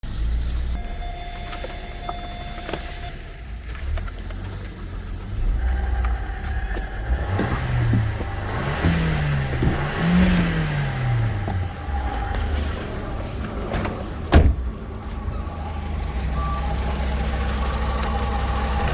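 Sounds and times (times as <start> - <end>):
car engine idling and revving: 0.0 - 18.9.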